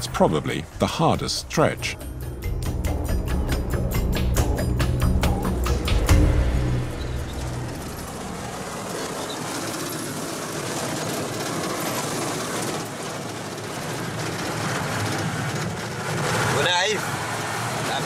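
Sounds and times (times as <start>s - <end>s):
truck cab rattling: 0.0s - 17.0s
truck engine and road noise: 0.0s - 18.0s.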